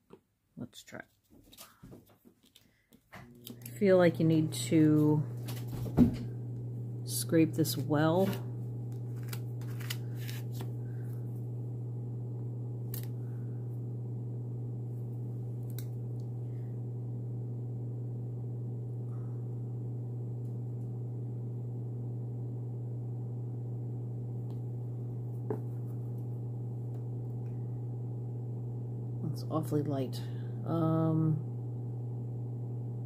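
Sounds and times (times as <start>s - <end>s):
low hum: 3.2s - 33.0s.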